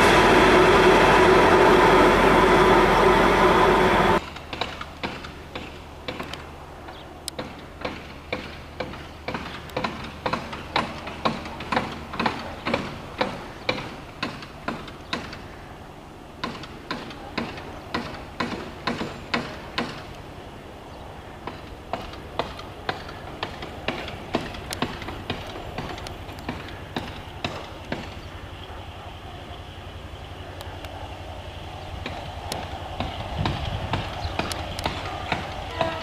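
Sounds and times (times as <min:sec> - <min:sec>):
train wheels clicking over rail joints: 0:00.0 - 0:15.6, 0:16.4 - 0:20.5, 0:21.2 - 0:36.0.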